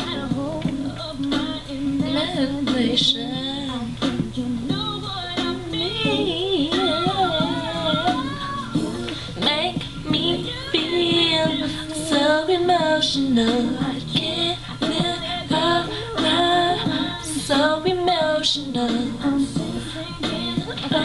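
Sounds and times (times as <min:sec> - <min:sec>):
music: 0:00.0 - 0:21.0
woman singing: 0:00.0 - 0:21.0.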